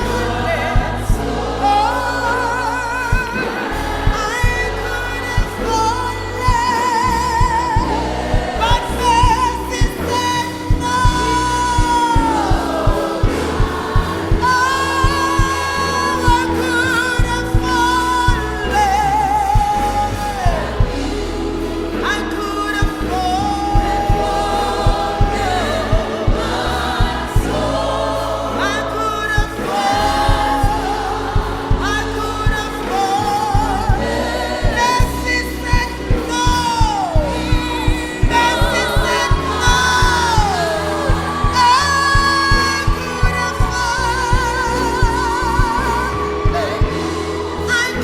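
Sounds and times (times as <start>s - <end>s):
person singing gospel: 0.0s - 48.0s.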